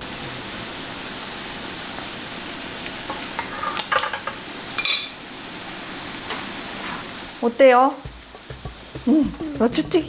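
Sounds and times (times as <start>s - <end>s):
deep-frying sizzle: 0.0s - 10.0s.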